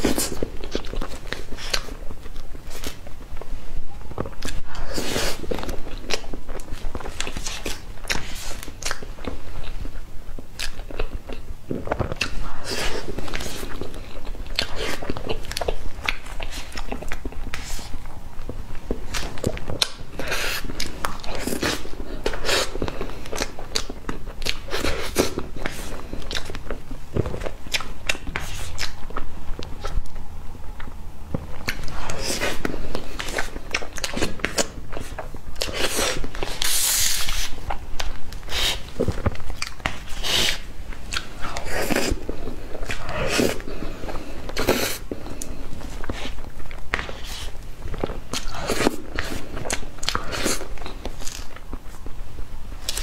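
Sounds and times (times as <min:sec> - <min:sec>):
wet chewing and smacking: 0:00.0 - 0:52.2.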